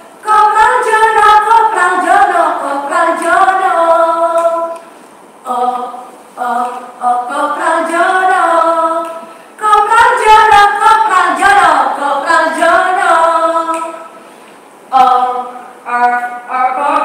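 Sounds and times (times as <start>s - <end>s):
women singing a cappella: 0.2s - 14.3s, 14.9s - 17.0s.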